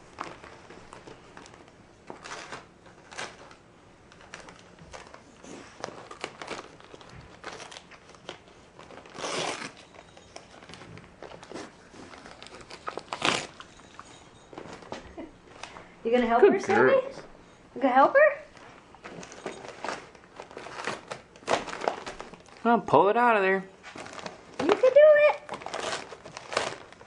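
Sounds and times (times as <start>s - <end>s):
wrapping paper crinkling: 0.0s - 15.7s, 18.5s - 27.0s.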